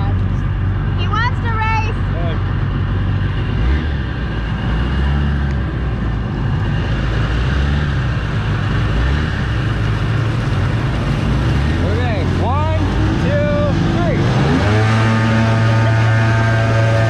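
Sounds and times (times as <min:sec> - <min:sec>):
boat engines running: 0:00.0 - 0:17.0.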